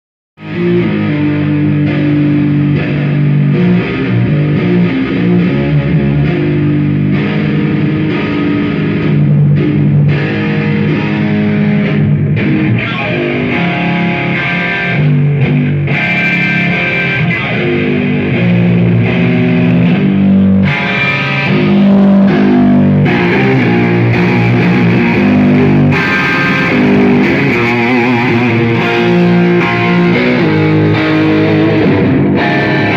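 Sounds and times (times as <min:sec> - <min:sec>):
distorted electric guitar: 0:00.4 - 0:32.9.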